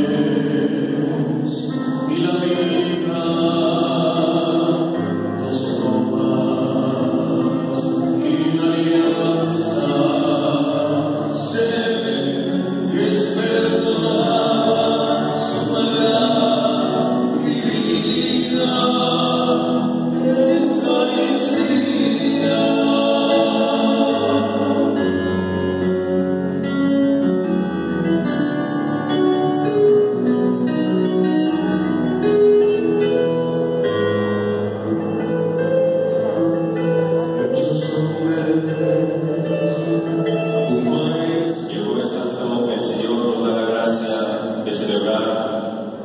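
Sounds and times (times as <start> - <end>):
choir singing a hymn: 0.0 - 30.0, 33.1 - 46.0
keyboard accompaniment: 0.0 - 46.0.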